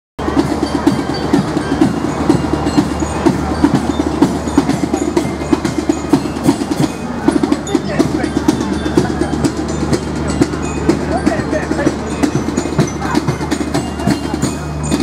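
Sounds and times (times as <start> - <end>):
carnival music with fast drumming: 0.2 - 15.0.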